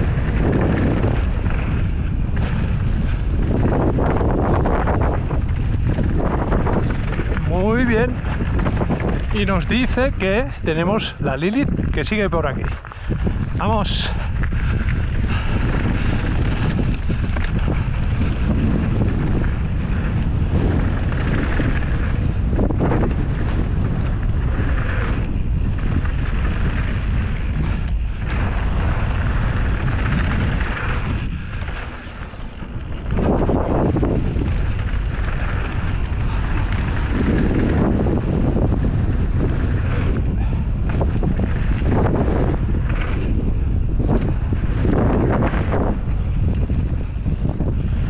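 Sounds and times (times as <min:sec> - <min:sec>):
tyres rolling on dirt trail: 0:00.0 - 0:48.0
wind rushing over microphone: 0:00.0 - 0:48.0.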